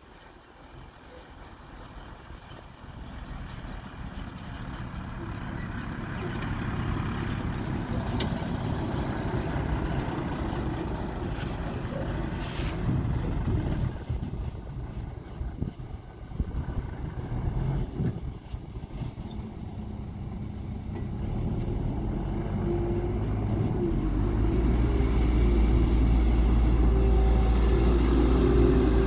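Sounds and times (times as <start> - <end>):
heavy machinery engine working: 2.2 - 29.0.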